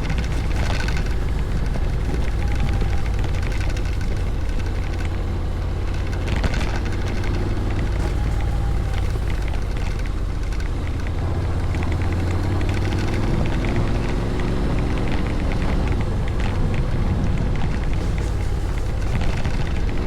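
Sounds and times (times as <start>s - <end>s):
scooter engine running: 0.0s - 20.0s
wind noise over microphone: 0.0s - 20.0s.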